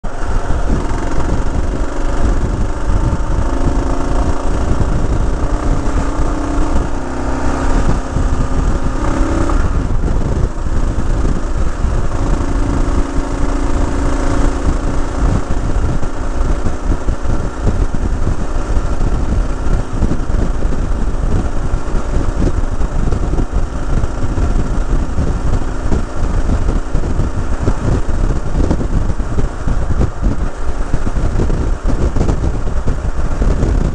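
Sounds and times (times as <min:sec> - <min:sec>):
motorcycle engine revving: 0:00.0 - 0:33.9
wind rush on microphone: 0:00.0 - 0:33.9.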